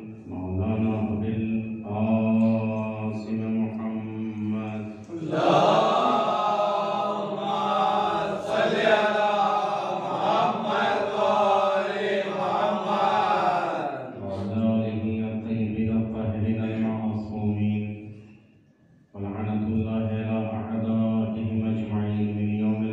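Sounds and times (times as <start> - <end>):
man chanting melodically: 0.0 - 18.2, 19.2 - 22.9.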